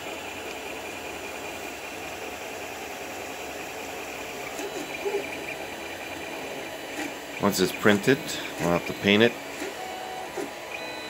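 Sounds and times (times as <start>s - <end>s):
three d printer whirring: 0.0s - 11.0s.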